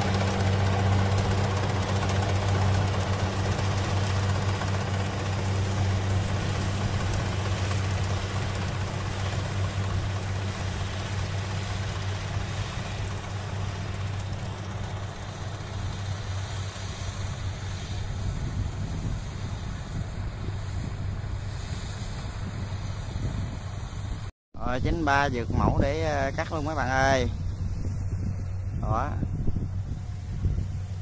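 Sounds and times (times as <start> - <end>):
combine harvester diesel engine: 0.0 - 31.0.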